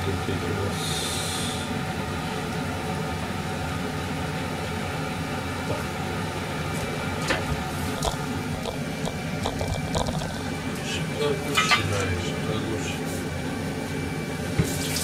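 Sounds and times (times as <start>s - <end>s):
kitchen appliance fan humming: 0.0s - 15.0s.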